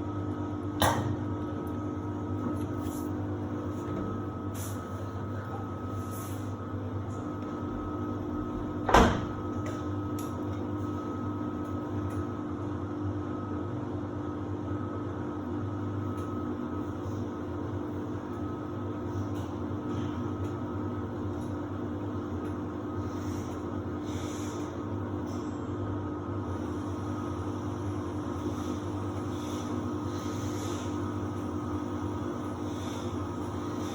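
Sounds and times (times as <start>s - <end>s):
washer-dryer humming: 0.0s - 33.9s.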